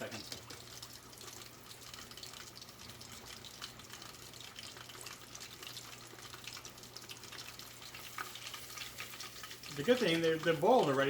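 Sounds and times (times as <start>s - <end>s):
sausages deep frying in oil: 0.0s - 11.0s.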